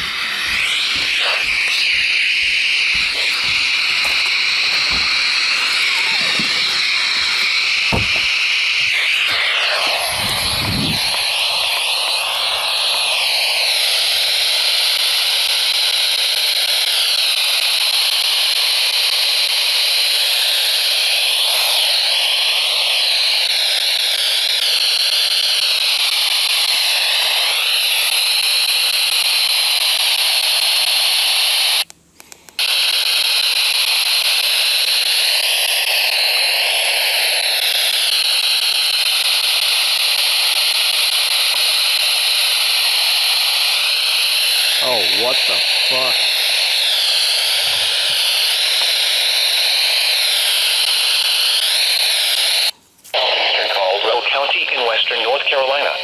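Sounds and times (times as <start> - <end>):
radio static hiss: 0.0 - 31.8, 32.6 - 56.0.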